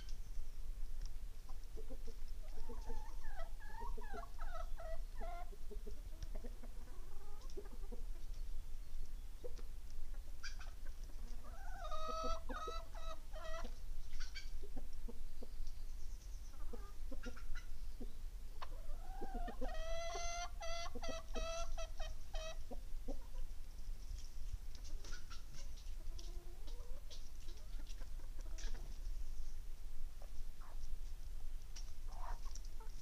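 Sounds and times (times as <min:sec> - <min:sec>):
hens clucking: 0:01.5 - 0:08.7, 0:09.4 - 0:29.5, 0:30.2 - 0:30.9, 0:31.8 - 0:33.0.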